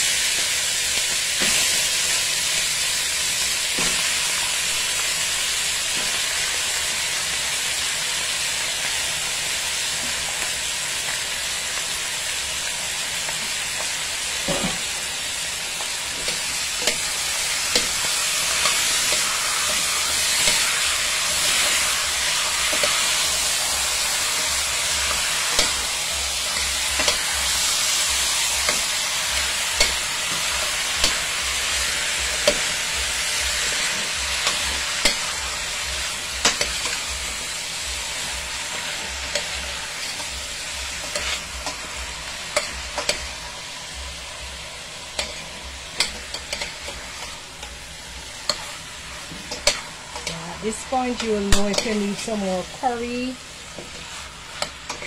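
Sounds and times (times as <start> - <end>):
chicken sizzling in pot: 0.0 - 55.0.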